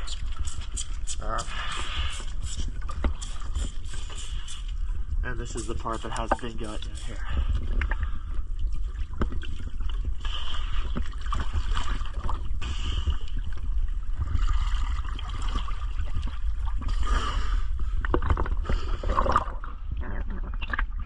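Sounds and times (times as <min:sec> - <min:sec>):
water sloshing and gurgling: 0:00.0 - 0:21.0.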